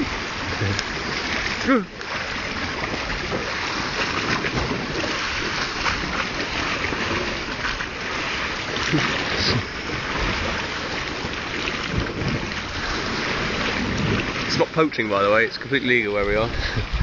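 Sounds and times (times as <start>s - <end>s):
wind on microphone: 0.0s - 15.0s, 16.0s - 17.0s
sea washing against rocks: 0.0s - 17.0s.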